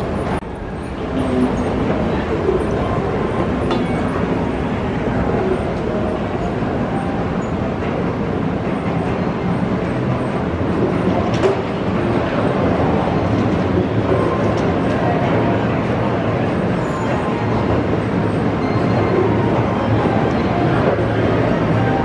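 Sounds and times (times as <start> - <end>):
moving walkway machinery: 0.0 - 22.0.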